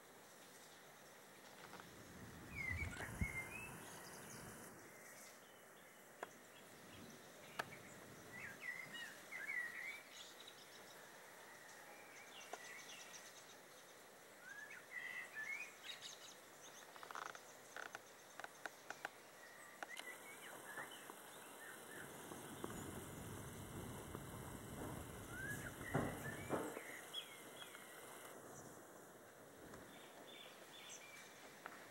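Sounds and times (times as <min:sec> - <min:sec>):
faint birdsong: 0:00.0 - 0:31.9
outdoor hiss: 0:00.0 - 0:31.9.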